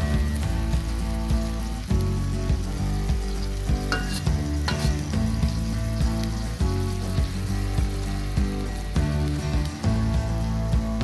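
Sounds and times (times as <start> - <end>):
background music with steady beat: 0.0 - 11.0
chicken sizzling in a wok: 0.0 - 11.0.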